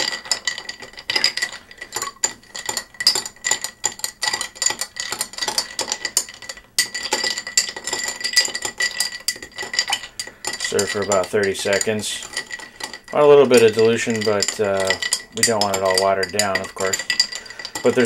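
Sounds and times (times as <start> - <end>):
spoon stirring ice in glass: 0.0 - 18.0.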